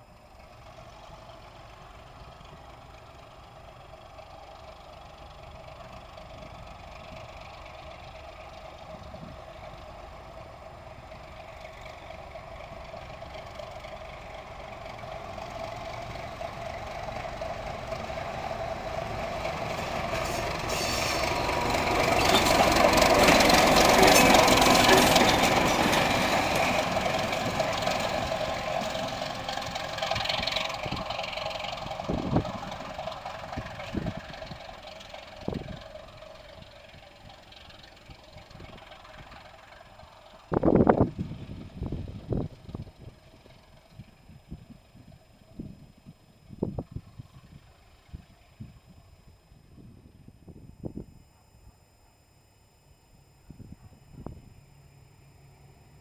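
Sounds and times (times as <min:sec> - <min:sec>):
train wheels on rails: 0:00.0 - 0:48.6
diesel locomotive engine: 0:00.0 - 0:56.0.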